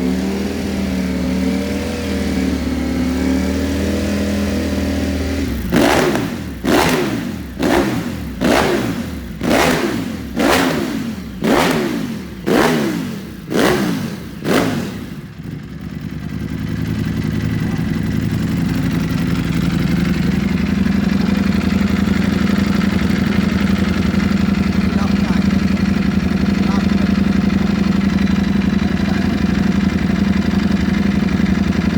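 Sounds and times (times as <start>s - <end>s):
motorcycle engine idling: 0.0s - 31.9s
motorcycle engine revving: 0.0s - 31.9s.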